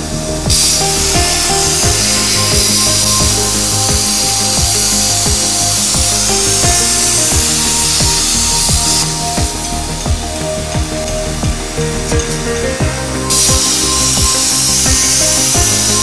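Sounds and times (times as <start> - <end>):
background music: 0.0 - 16.0
plasma cutter hissing: 0.0 - 16.0.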